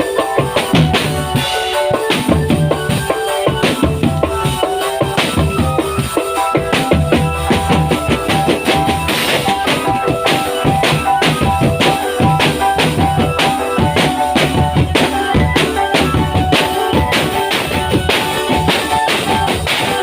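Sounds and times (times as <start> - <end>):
bass drum and snare beat: 0.0 - 20.0
held melody notes: 0.0 - 20.0.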